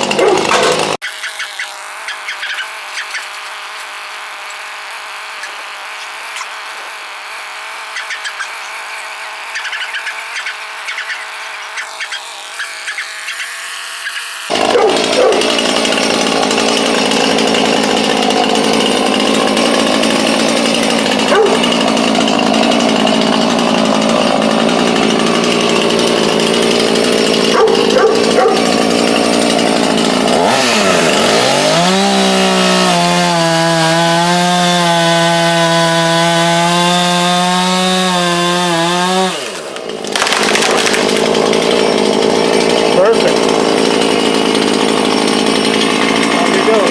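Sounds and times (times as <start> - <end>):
chainsaw cutting branch: 0.0 - 46.9.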